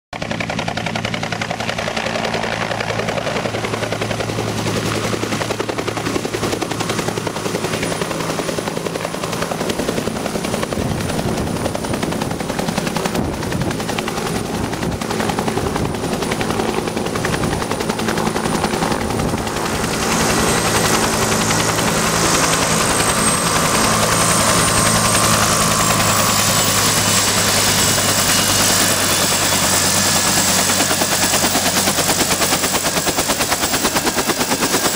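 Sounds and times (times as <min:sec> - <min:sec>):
helicopter rotor beating: 0:00.2 - 0:34.9
high turbine whine: 0:00.4 - 0:34.9.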